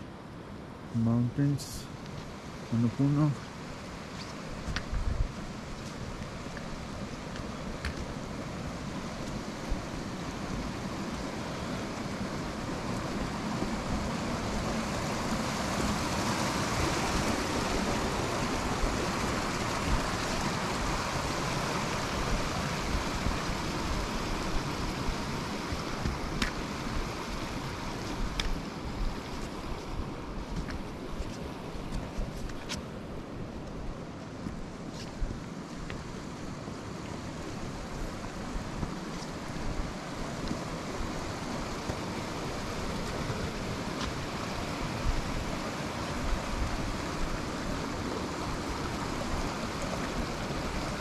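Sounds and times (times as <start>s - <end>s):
mountain stream rushing: 0.0s - 51.0s
wind on microphone: 4.2s - 32.8s, 37.2s - 51.0s.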